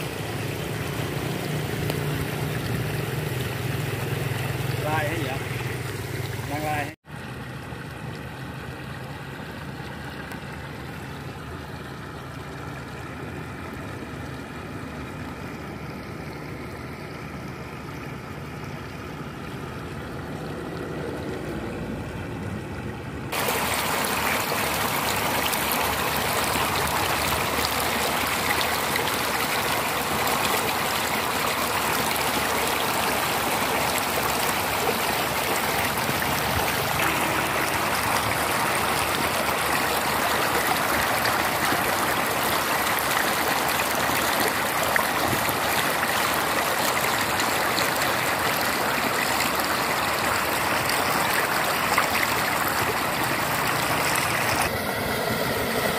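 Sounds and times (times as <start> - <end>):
frothing water rushing: 0.0 - 55.9.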